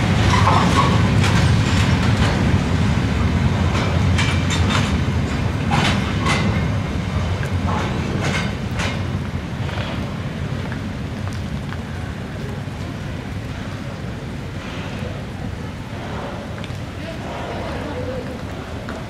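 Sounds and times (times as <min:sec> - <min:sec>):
train rumbling: 0:00.0 - 0:19.0
wheels clacking over rail joints: 0:00.0 - 0:19.0.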